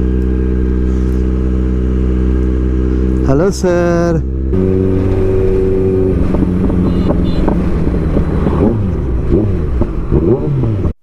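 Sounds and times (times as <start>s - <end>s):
motorcycle engine running: 0.0s - 10.9s
vehicles passing: 0.0s - 11.0s.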